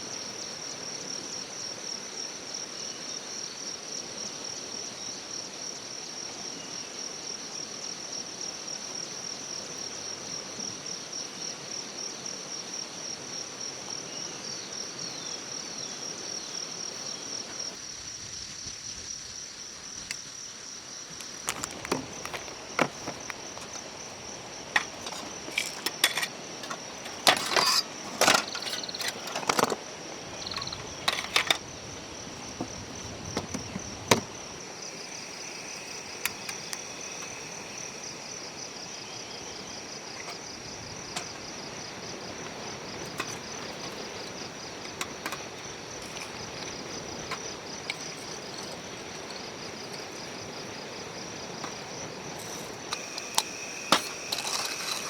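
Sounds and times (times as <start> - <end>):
high-pitched insect chorus: 0.0 - 55.0
rapidly pulsing insect call: 0.0 - 55.0.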